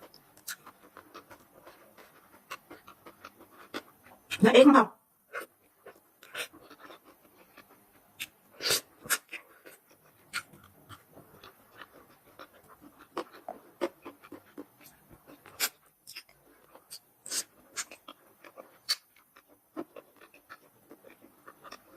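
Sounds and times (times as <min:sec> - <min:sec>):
crunchy bites and chewing: 0:00.1 - 0:04.4, 0:05.3 - 0:21.9.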